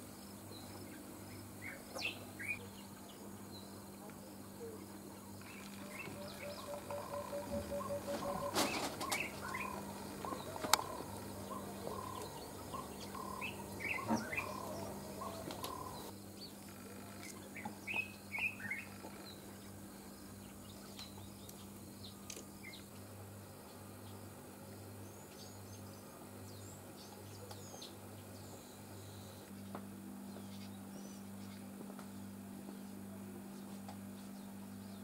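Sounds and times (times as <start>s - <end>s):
steady low hum: 0.0s - 35.0s
small birds chirping: 0.1s - 29.7s, 30.3s - 35.0s.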